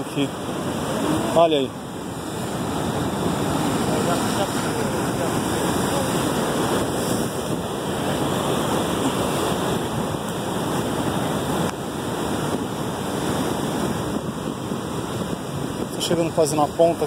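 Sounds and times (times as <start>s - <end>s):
ocean surf breaking on rocks: 0.0s - 17.0s.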